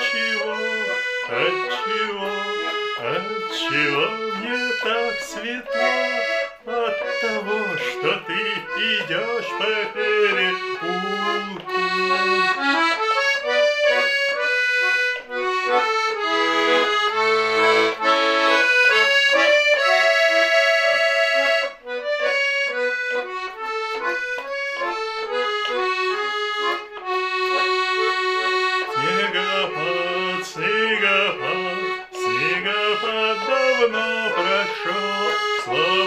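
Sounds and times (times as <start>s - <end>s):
button accordion melody: 0.0s - 36.0s.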